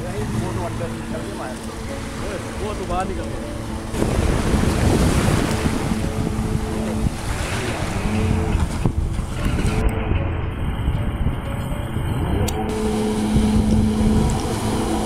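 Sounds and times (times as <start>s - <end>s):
jet ski engine running: 0.0s - 15.0s
waves: 0.0s - 15.0s
wind noise on microphone: 0.0s - 15.0s.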